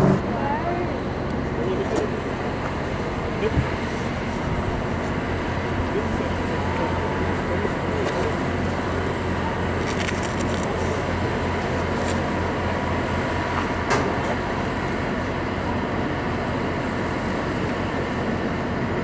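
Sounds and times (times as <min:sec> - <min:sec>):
diesel locomotive humming: 0:00.0 - 0:19.0.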